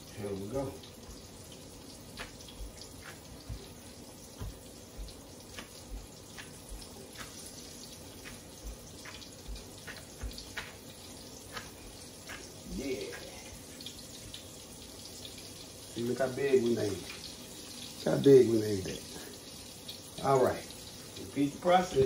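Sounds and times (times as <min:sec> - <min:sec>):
steak frying in hot oil: 0:00.0 - 0:22.0.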